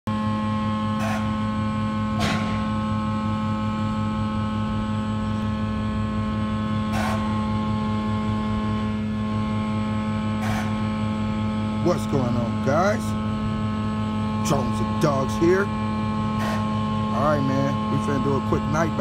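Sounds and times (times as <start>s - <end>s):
steady machinery hum: 0.0s - 19.0s.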